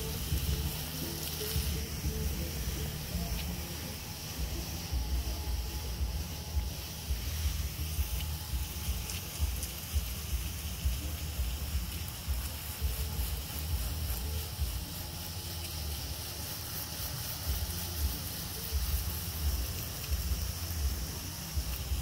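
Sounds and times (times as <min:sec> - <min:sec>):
garden hose spraying water: 0:00.0 - 0:22.0.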